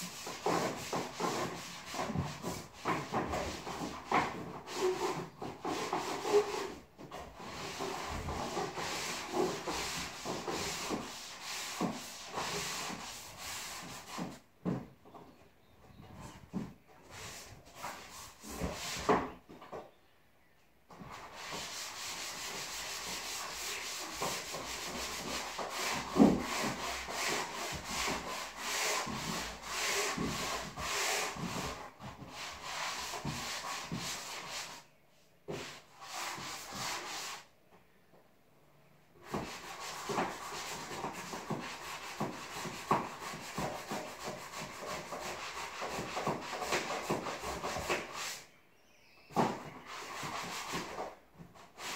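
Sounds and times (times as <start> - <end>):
hand-sanding drywall: 0.0 - 14.8, 16.1 - 19.4, 20.9 - 37.6, 39.2 - 48.5, 49.3 - 51.9.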